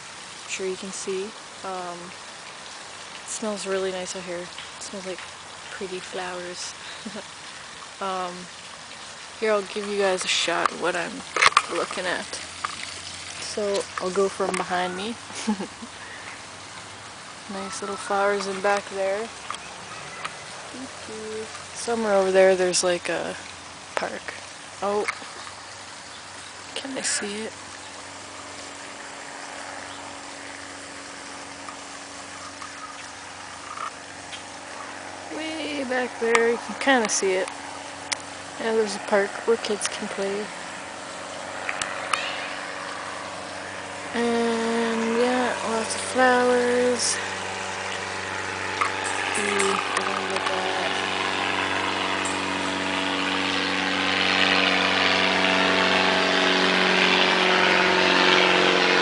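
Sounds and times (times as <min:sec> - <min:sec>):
motor engine running: 0:00.0 - 0:02.5, 0:03.2 - 0:59.0
water rushing and splashing: 0:00.0 - 0:59.0.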